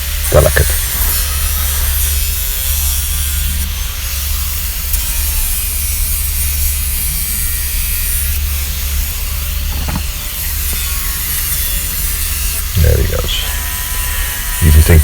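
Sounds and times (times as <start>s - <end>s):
angle grinder grinding wood: 0.0s - 15.0s.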